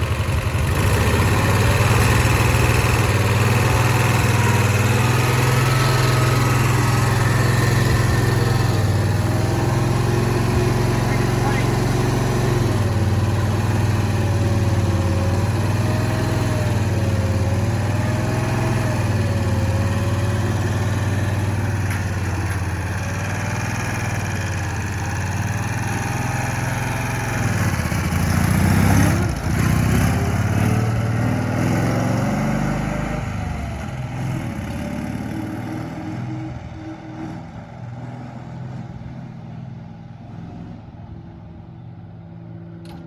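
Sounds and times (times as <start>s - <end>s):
utility vehicle engine running: 0.0s - 43.0s.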